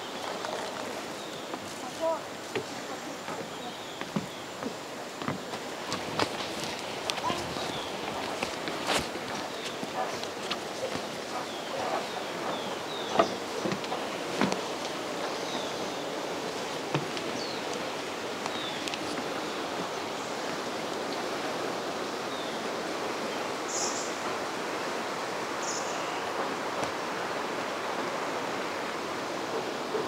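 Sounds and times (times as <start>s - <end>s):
steady outdoor rushing noise: 0.0s - 30.0s.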